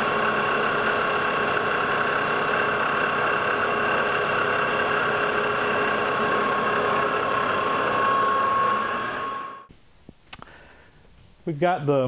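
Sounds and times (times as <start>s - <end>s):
metal lathe whining: 0.0s - 9.7s.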